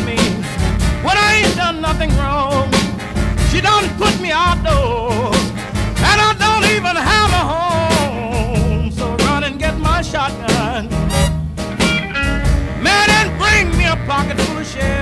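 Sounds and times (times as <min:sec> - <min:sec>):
blues band instrumental: 0:00.0 - 0:15.0.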